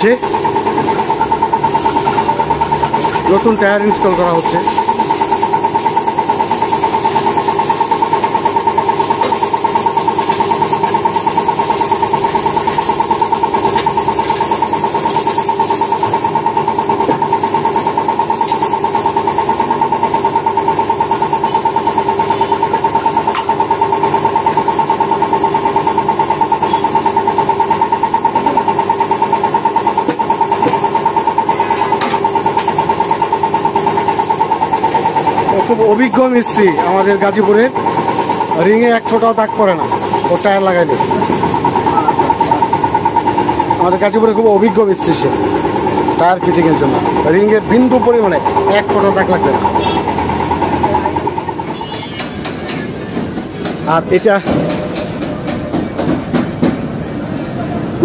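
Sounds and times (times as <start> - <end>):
machine droning: 0.0 - 58.0.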